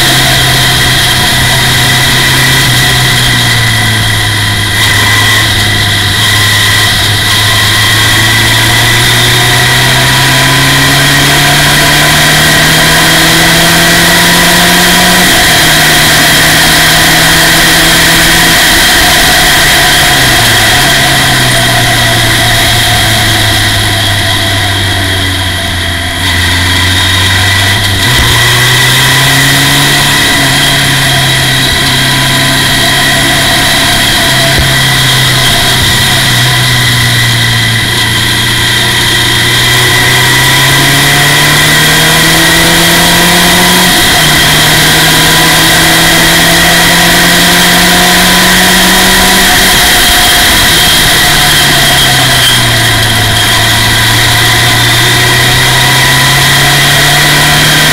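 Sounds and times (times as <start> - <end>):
race car engine revving: 0.0 - 57.9.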